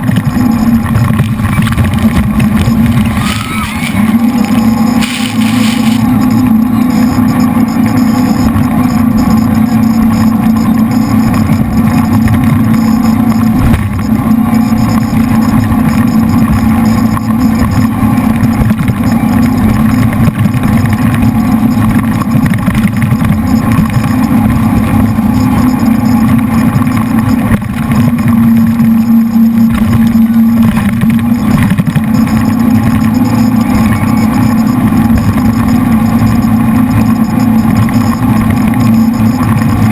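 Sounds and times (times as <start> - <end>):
boat engines running loud: 0.0 - 39.9.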